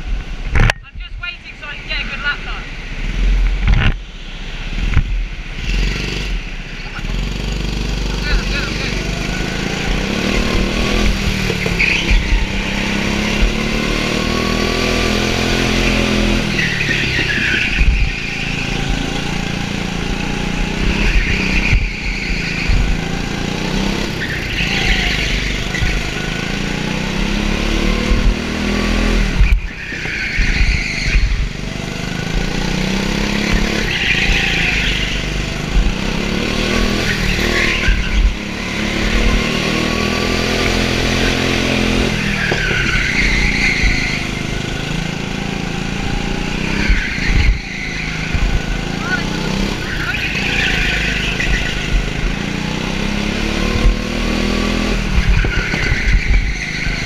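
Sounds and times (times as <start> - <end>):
go-kart engine revving: 2.0 - 57.0.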